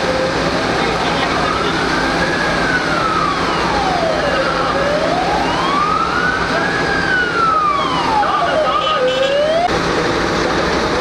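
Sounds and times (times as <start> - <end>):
emergency vehicle siren wailing: 0.0 - 9.8.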